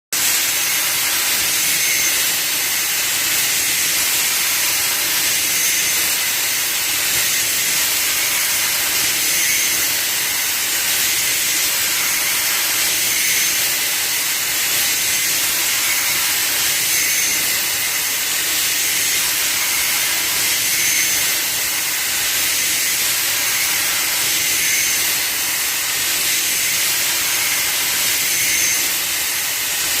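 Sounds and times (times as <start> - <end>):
cnc machine hissing: 0.2 - 30.0.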